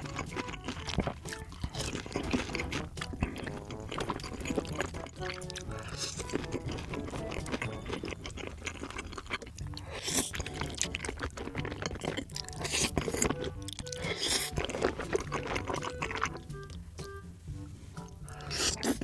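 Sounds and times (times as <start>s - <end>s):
background music with steady beat: 0.0s - 19.0s
crunching and chewing food: 0.0s - 19.0s.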